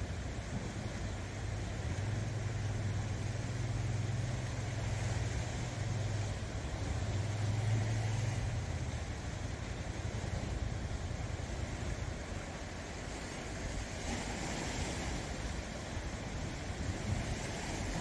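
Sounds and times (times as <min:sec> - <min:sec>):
low engine hum: 0:00.0 - 0:18.0
waves breaking on rocks: 0:00.0 - 0:18.0.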